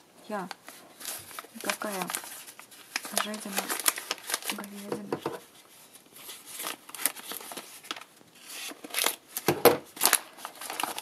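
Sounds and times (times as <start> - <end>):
packaging rustling and crinkling: 0.3 - 11.0.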